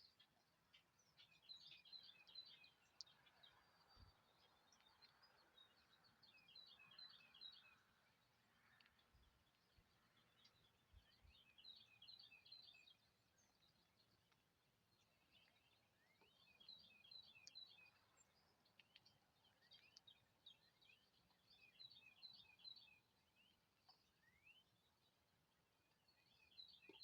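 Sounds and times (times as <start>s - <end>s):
songbirds chirping faintly: 0.0s - 27.0s.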